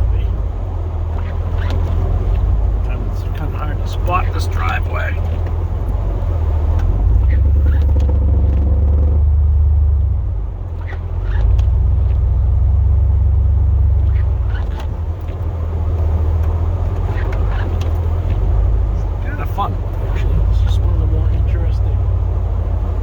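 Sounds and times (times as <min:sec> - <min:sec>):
truck engine rumble: 0:00.0 - 0:23.0.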